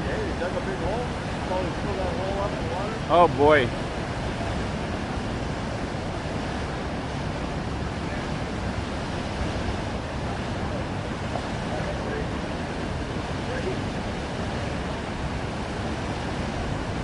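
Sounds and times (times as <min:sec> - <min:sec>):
water gushing and splashing: 0:00.0 - 0:17.0.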